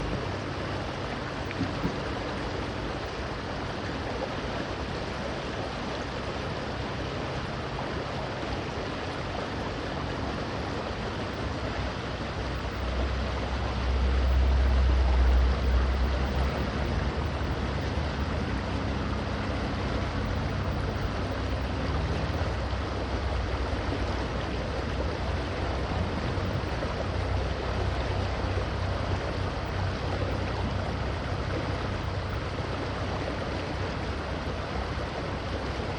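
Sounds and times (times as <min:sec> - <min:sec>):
river water flowing: 0:00.0 - 0:35.9.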